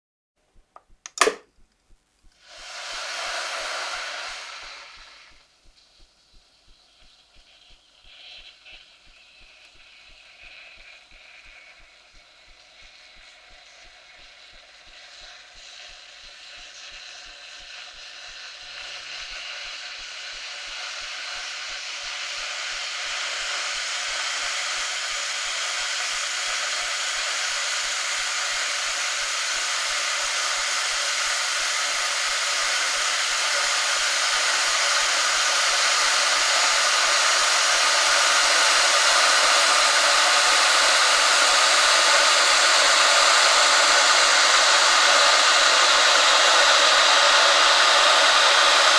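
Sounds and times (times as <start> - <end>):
electric kettle heating water: 0.8 - 1.4, 2.4 - 48.9.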